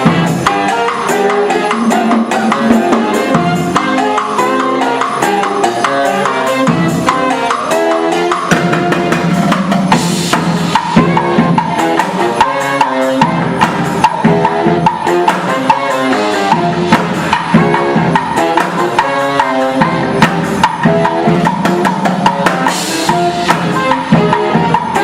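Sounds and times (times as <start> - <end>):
drum and percussion beat: 0.0 - 25.0
live band playing: 0.0 - 25.0.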